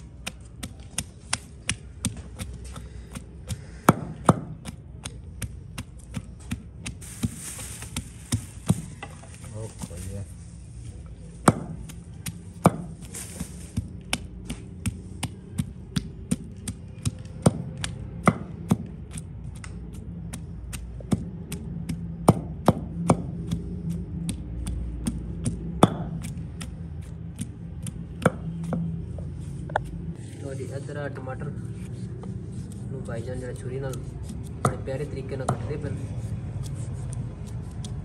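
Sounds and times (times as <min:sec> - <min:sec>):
pestle pounding in a stone mortar: 0:00.0 - 0:09.3, 0:11.4 - 0:29.0, 0:32.1 - 0:38.0.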